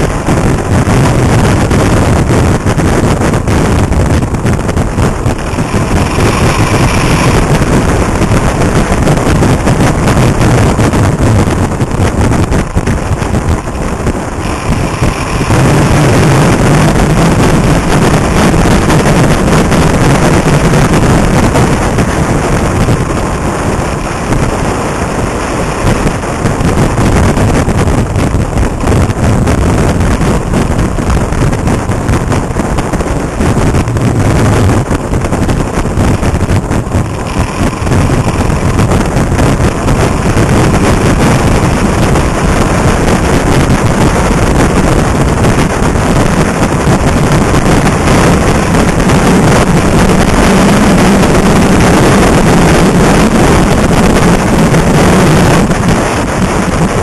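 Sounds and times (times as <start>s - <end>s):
motorcycle engine rumble: 0.0s - 57.0s
wind rushing over microphone: 0.0s - 57.0s.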